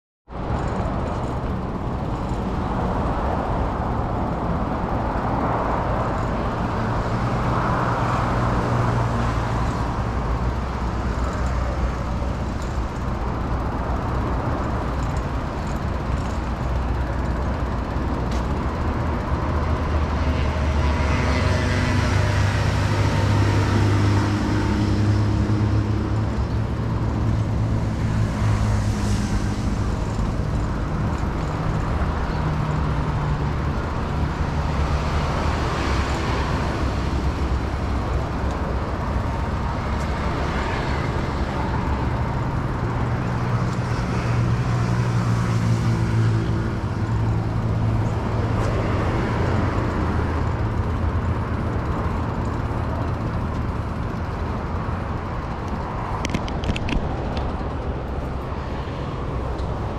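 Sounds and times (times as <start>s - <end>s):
road traffic hum: 0.3s - 59.9s.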